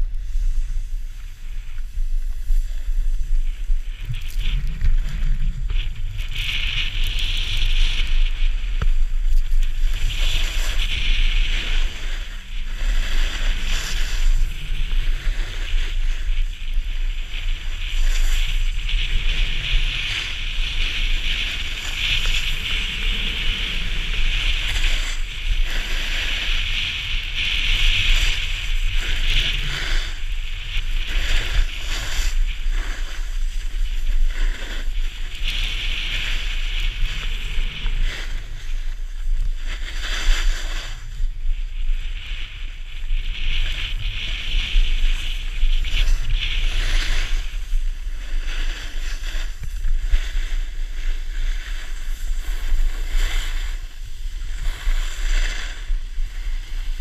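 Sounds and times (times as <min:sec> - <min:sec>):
skis scraping over packed snow: 0:00.0 - 0:57.0
wind rumble on microphone: 0:00.0 - 0:57.0.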